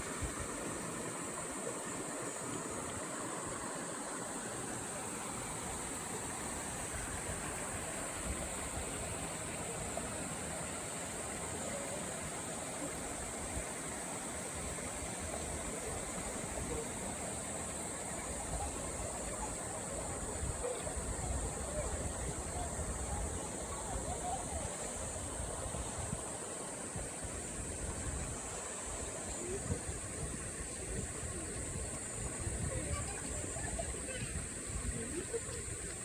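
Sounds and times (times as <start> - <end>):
steady high-pitched hiss: 0.0 - 36.0
stream water running: 0.0 - 36.0.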